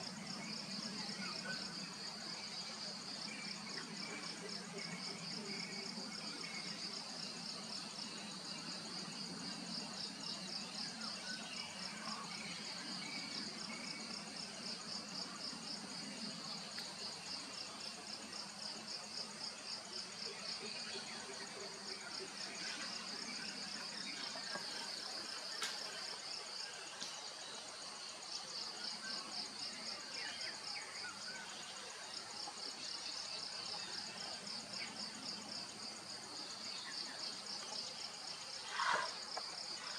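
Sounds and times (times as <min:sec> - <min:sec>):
insects pulsing chirp: 0:00.0 - 0:39.9.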